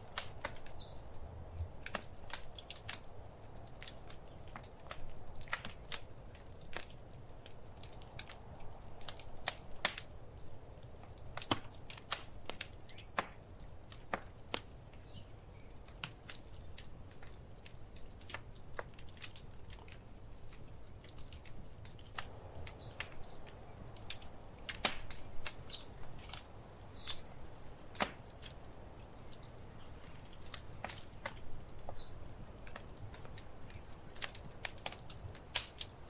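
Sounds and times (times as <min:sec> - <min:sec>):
fire snaps and pops: 0:00.0 - 0:36.0
low rumble of fire: 0:00.0 - 0:36.0.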